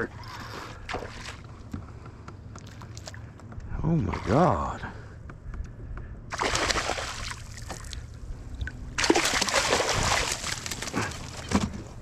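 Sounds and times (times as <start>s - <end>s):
water splashing and sloshing: 0.0s - 1.8s, 2.6s - 4.8s, 6.0s - 12.0s.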